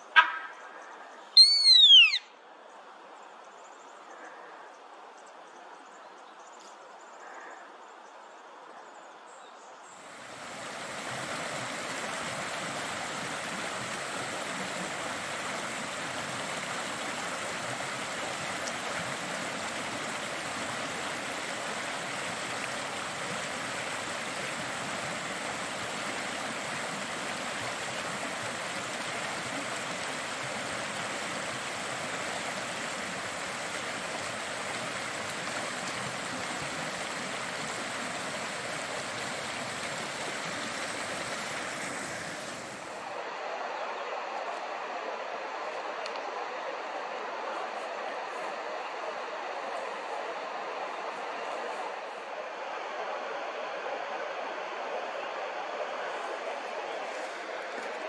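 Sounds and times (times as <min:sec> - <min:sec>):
creek rushing over rocks: 0:10.0 - 0:58.0.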